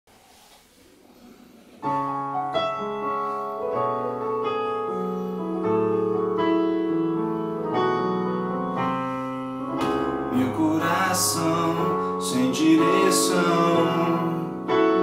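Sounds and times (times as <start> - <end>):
electronic keyboard piano chords: 1.6 - 15.0.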